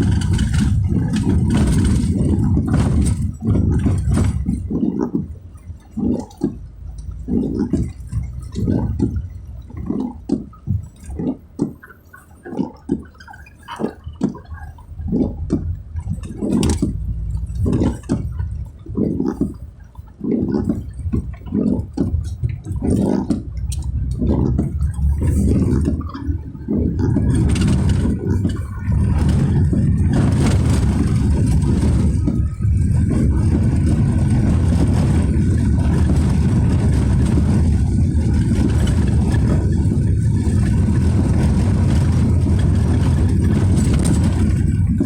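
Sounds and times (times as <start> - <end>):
low rumble: 0.0 - 12.1, 14.4 - 45.0
car driving on wet road: 0.0 - 45.0
water swishes: 0.0 - 45.0.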